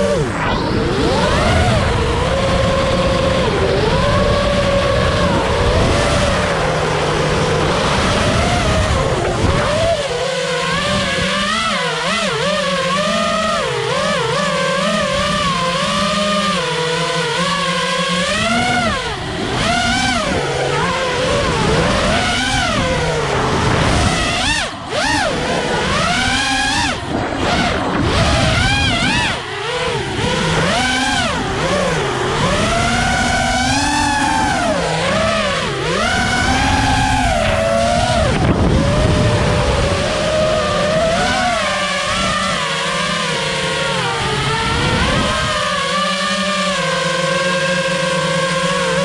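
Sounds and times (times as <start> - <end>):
quadcopter motors whining: 0.0 - 49.0.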